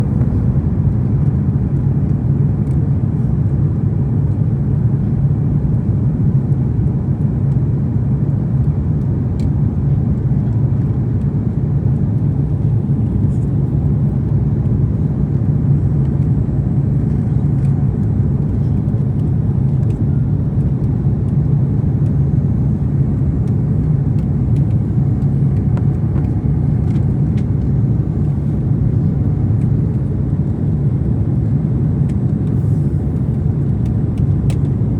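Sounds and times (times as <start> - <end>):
jet airliner cabin noise: 0.0 - 34.9.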